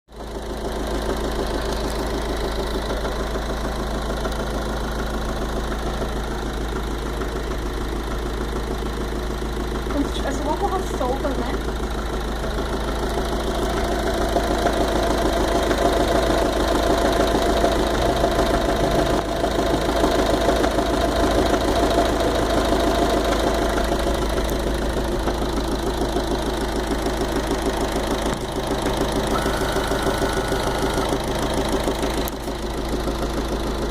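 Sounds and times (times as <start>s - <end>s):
car engine idling with knocking: 0.1s - 33.9s.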